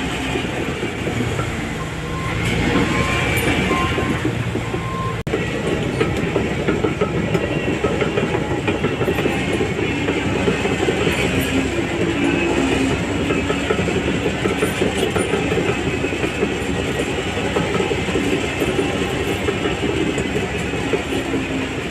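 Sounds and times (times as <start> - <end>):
diesel engine under load: 0.0 - 21.9
steel tracks clanking: 0.0 - 21.9.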